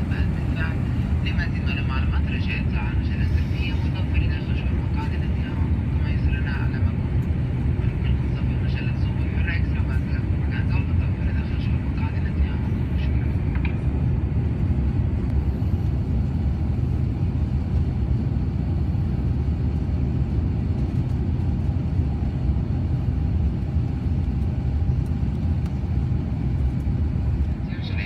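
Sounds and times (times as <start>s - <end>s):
airliner cabin engine and airflow noise: 0.0s - 28.0s.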